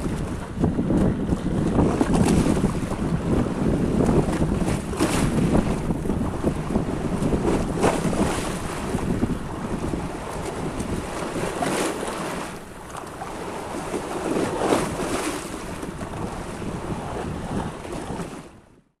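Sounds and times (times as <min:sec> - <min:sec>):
water splashing and sloshing: 0:00.0 - 0:18.6
wind buffeting microphone: 0:00.0 - 0:18.8.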